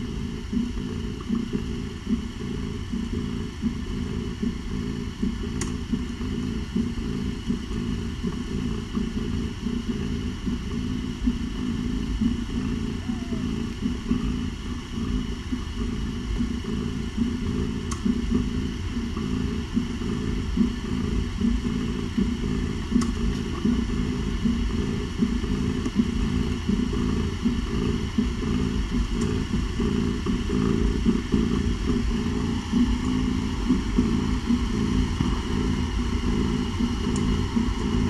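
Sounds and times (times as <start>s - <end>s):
cats purring: 0.0s - 38.0s.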